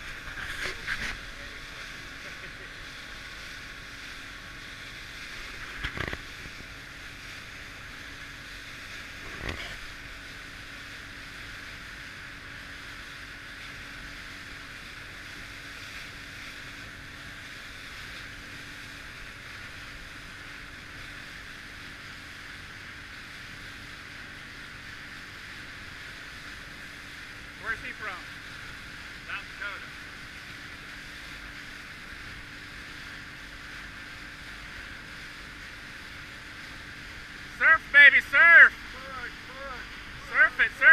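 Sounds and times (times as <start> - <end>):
faint steady hum: 0.0 - 40.9
wind and water rushing: 0.0 - 40.9.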